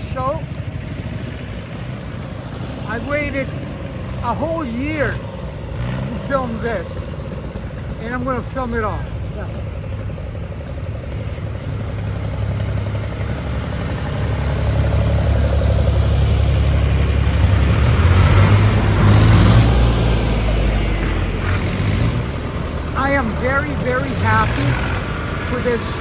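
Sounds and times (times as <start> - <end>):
tractor engine chugging past: 0.0 - 26.0.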